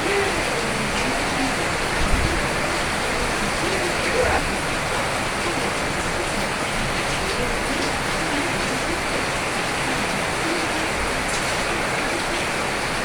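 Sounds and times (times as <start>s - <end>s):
raindrops pattering: 0.0s - 13.0s
steady rain hiss: 0.0s - 13.0s.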